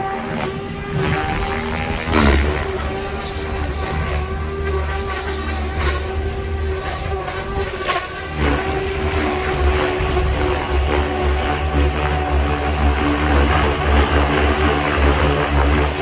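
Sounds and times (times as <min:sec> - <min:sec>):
helicopter motor whine: 0:00.0 - 0:16.0
rotor whoosh: 0:00.0 - 0:16.0.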